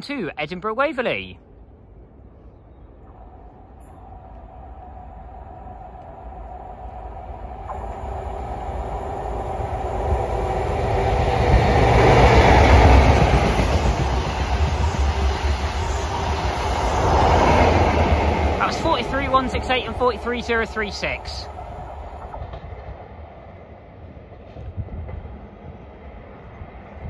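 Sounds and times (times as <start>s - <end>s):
diesel train engine drone: 1.3s - 27.0s
wheels rumbling on rails: 1.7s - 27.0s.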